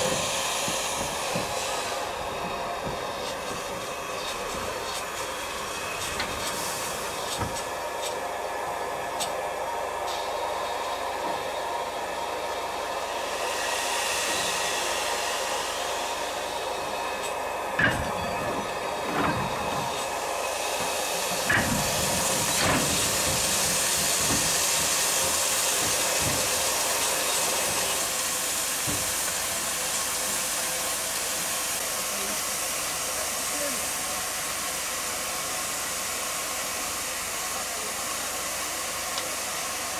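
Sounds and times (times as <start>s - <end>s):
steam train hissing: 0.0s - 39.9s.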